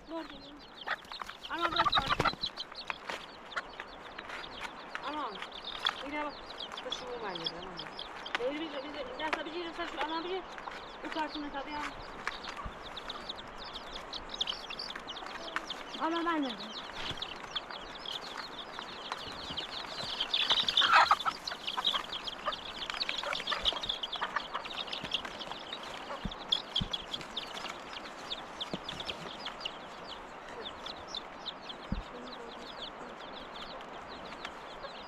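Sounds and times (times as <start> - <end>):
birds chirping high peeps: 0.0 - 35.0.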